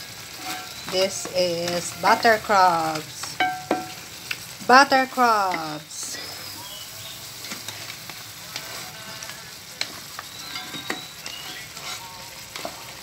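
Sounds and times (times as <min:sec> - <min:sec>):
sauce sizzling and bubbling in pot: 0:00.0 - 0:13.0.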